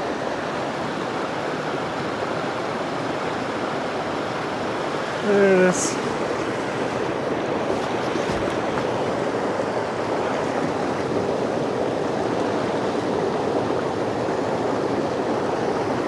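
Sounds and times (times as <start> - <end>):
creek water flowing over rocks: 0.0 - 16.0.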